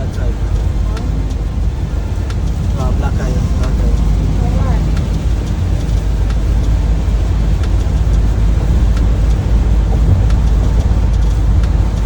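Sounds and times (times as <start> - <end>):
faint ticks: 0.0 - 12.0
truck engine and road rumble: 0.0 - 12.0.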